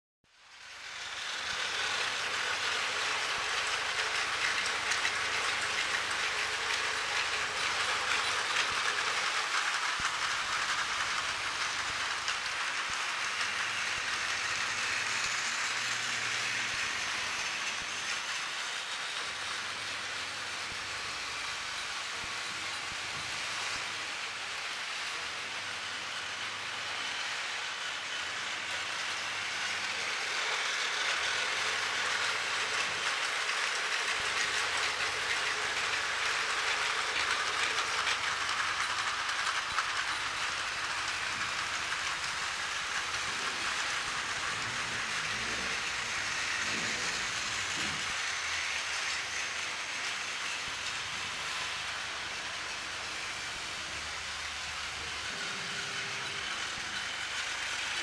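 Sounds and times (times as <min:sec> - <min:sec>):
toy train whirring rattle: 0:00.3 - 0:58.0.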